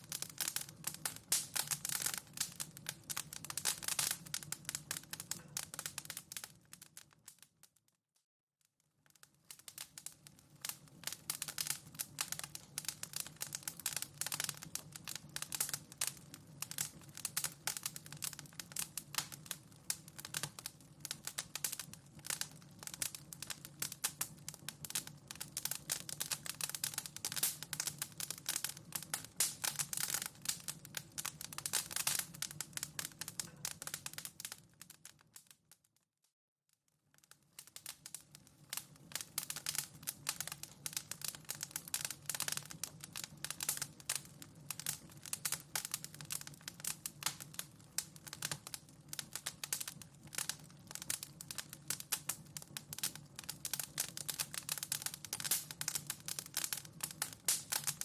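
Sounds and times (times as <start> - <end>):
wood fire crackling: 0.0 - 7.8, 8.8 - 35.7, 37.1 - 58.0.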